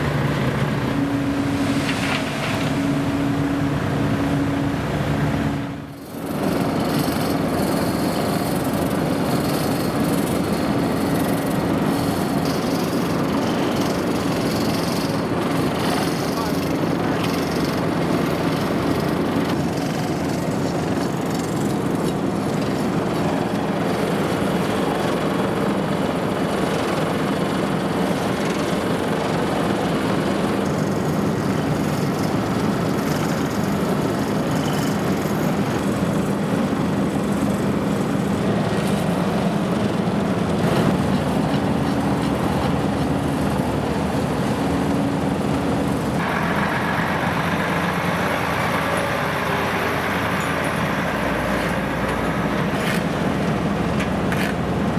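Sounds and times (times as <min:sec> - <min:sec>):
heavy vehicle engine rumbling: 0:00.0 - 0:54.9.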